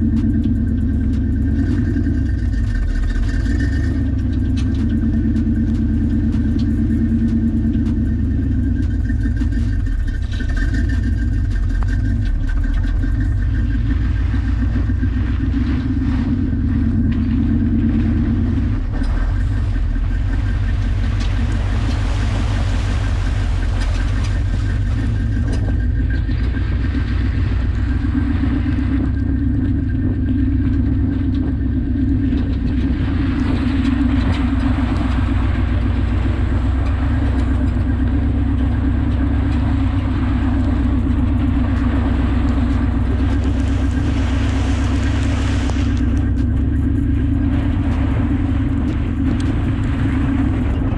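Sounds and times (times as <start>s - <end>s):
car engine running under load: 0.0s - 50.9s.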